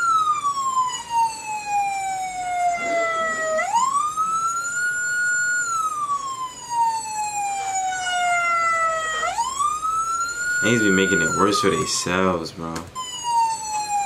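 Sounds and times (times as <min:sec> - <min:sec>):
police siren wailing: 0:00.0 - 0:14.0.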